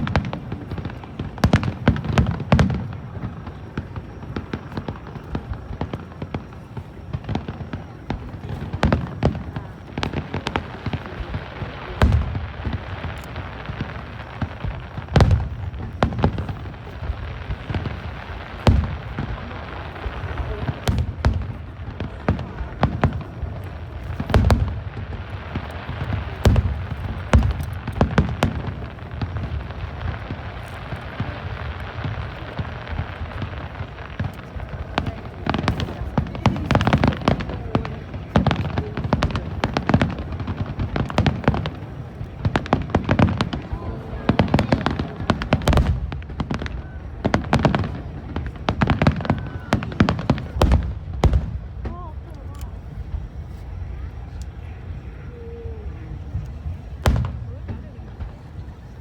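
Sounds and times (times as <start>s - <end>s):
fireworks bursting with bangs: 0.0s - 59.0s
low rumble and crackle: 0.0s - 59.0s.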